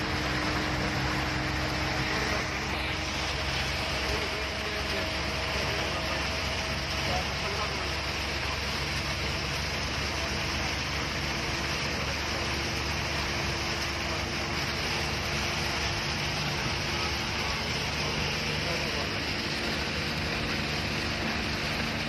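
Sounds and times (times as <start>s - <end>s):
vehicle road noise in rain: 0.0s - 22.0s.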